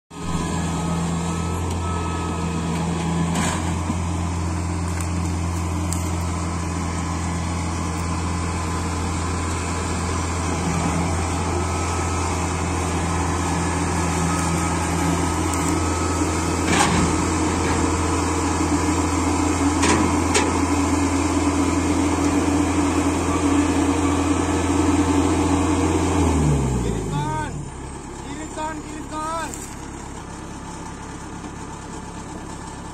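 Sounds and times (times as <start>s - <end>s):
combine harvester diesel engine: 0.1s - 32.9s.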